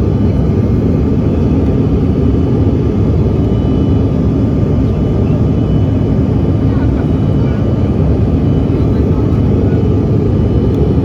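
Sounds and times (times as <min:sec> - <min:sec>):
airliner engines and rushing air: 0:00.0 - 0:11.0.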